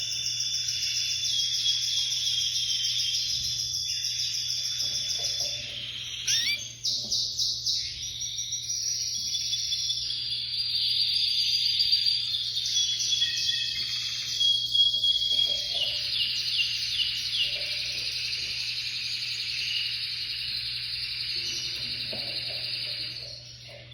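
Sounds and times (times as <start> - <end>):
canary singing trills: 0.0 - 23.9.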